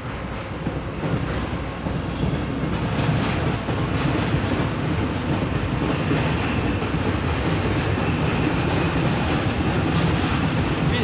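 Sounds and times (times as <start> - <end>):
rushing wind: 0.0 - 11.0
wind buffeting microphone: 0.0 - 11.0.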